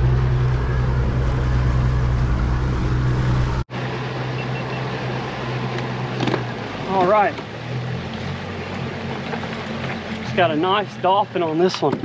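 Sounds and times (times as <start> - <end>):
outboard motor humming: 0.0 - 12.0
rushing wake water: 0.0 - 12.0
wind: 0.0 - 12.0.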